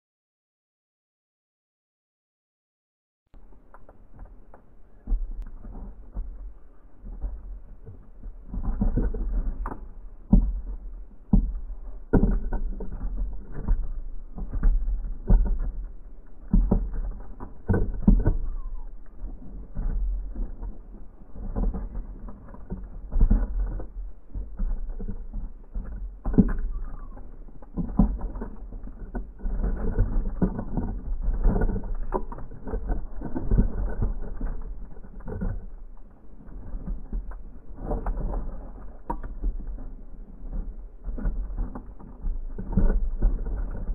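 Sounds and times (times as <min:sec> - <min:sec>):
birds pecking seeds: 0:03.4 - 0:43.9.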